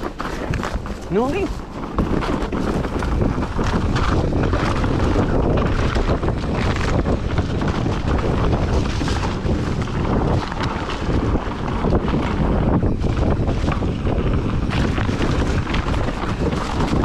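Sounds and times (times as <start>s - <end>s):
bike knocks and rattles: 0.0s - 17.0s
bike tyres rolling over rock: 0.0s - 17.0s
wind on microphone: 0.0s - 17.0s.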